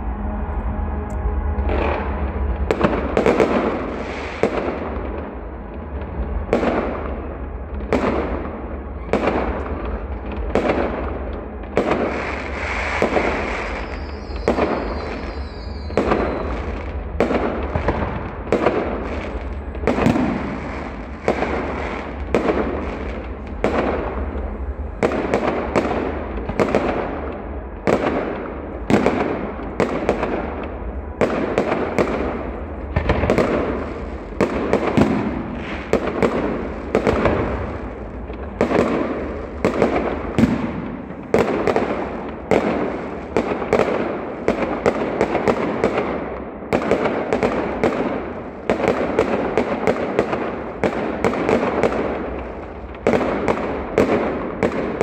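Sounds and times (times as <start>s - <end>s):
fireworks bursting with echo: 0.0s - 55.0s.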